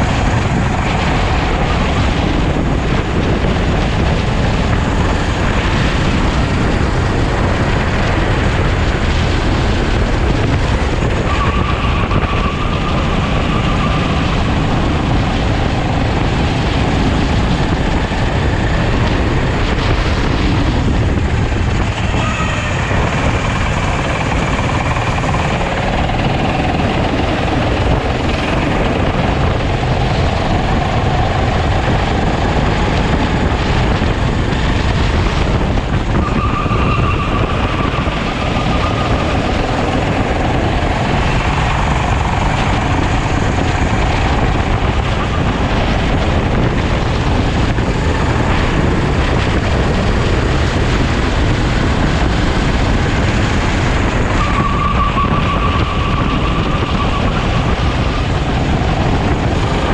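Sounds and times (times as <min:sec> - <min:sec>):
kart engine at racing speed: 0:00.0 - 0:59.9
wind rushing over microphone: 0:00.0 - 0:59.9.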